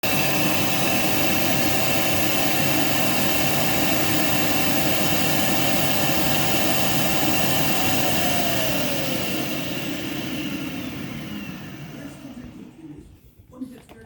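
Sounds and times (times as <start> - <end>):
vacuum cleaner motor running: 0.0 - 13.2.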